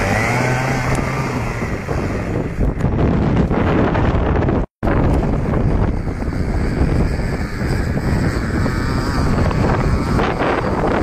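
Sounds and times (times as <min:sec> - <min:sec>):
two-stroke engine drone: 0:00.0 - 0:11.0
wind buffeting microphone: 0:00.0 - 0:11.0.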